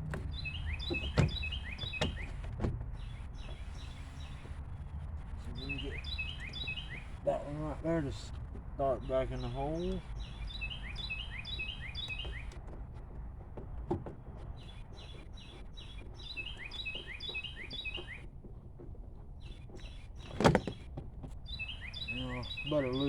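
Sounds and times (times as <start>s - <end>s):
steady low rumble: 0.0s - 20.2s
songbird chirping: 0.0s - 23.0s.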